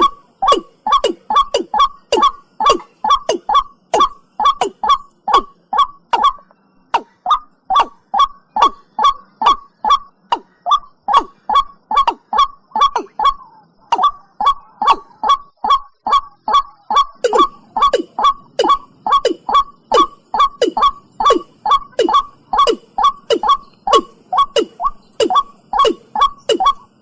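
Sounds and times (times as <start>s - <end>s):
bird calling short descending notes: 0.0s - 27.0s.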